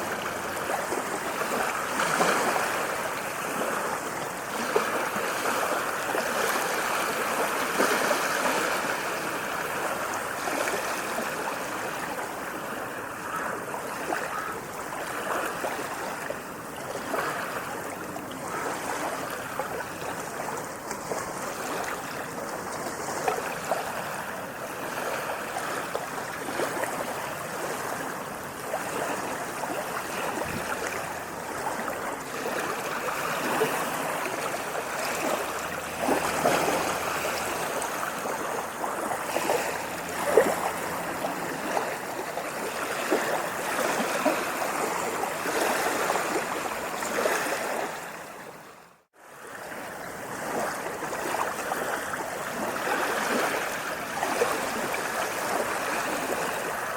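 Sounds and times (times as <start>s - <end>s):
small waves lapping on shore: 0.0s - 56.9s.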